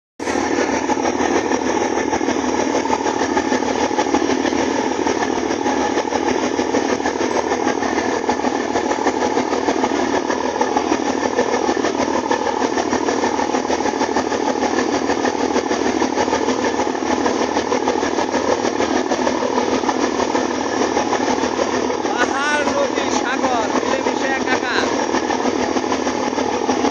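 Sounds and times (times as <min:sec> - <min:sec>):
boat engine running: 0:00.2 - 0:26.9
water churning: 0:00.2 - 0:26.9.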